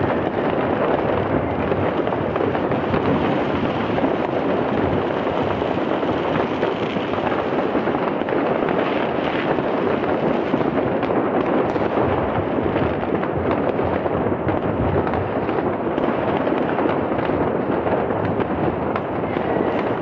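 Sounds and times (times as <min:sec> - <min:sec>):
fireworks and firecrackers banging: 0:00.0 - 0:20.0.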